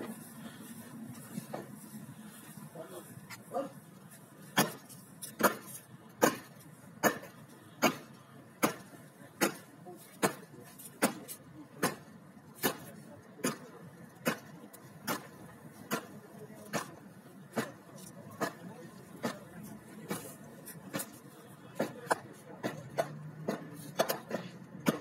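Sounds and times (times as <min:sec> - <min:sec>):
soldiers marching in step: 0:00.0 - 0:25.0.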